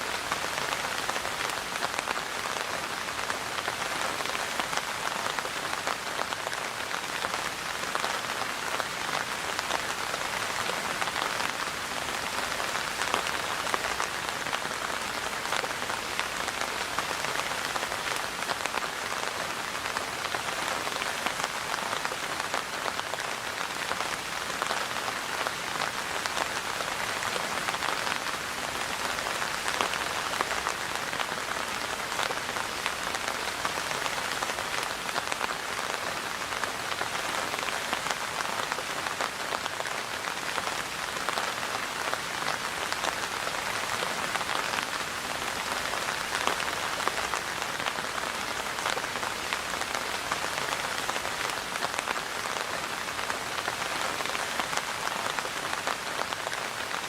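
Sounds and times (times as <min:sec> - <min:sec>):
rain pattering on a surface: 0:00.0 - 0:57.0.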